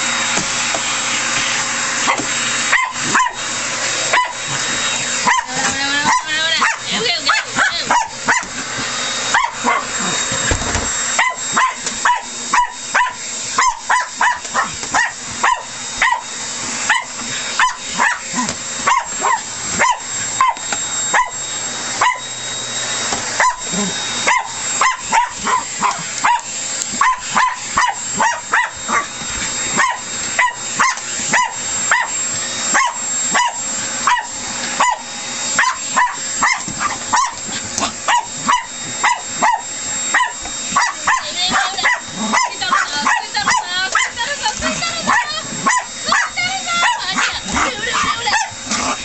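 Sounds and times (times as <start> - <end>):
vacuum cleaner running: 0.0 - 49.0
dog barking: 2.1 - 3.4, 4.1 - 4.5, 5.2 - 8.5, 9.3 - 10.0, 11.2 - 16.3, 16.9 - 21.4, 22.0 - 22.2, 23.4 - 23.7, 24.3 - 29.1, 29.7 - 49.0.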